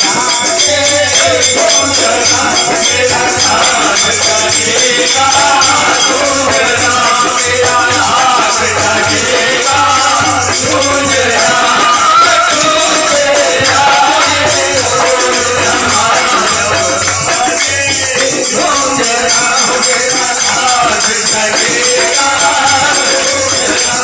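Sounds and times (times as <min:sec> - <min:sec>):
loud music with shaker beat: 0:00.0 - 0:24.0.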